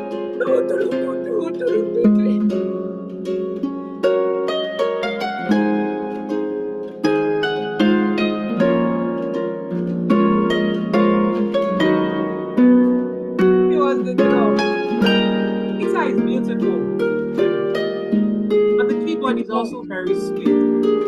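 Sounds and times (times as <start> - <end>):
harp music: 0.0 - 21.0.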